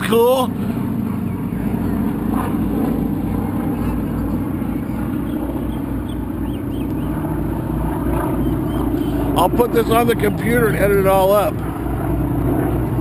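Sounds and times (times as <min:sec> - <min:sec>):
airplanes droning overhead: 0:00.0 - 0:13.0
wind rumbling on microphone: 0:00.0 - 0:13.0.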